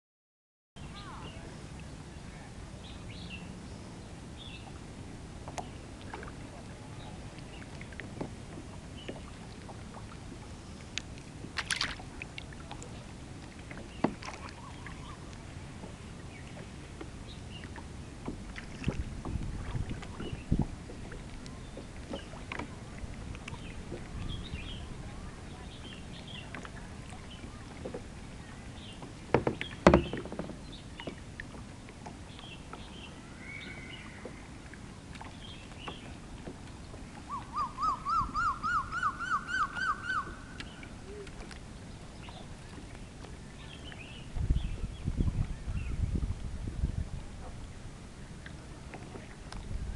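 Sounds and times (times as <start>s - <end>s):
hiss of wind and water: 0.8s - 49.9s
paddle splashing in water: 4.3s - 49.9s.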